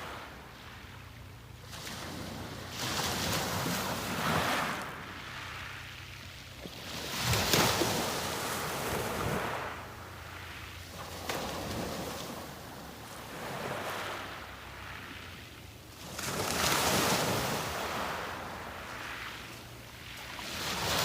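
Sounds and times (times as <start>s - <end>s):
sea waves breaking on beach: 0.0s - 21.0s.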